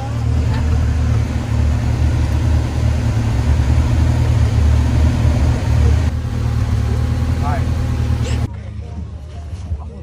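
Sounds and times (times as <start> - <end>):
off-road vehicle engine rumble: 0.0 - 10.0.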